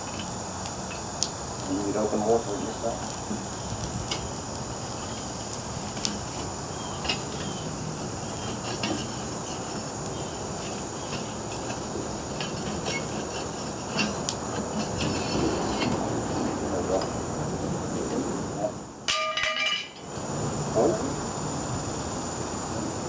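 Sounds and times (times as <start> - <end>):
furnace burner roaring: 0.0 - 23.0.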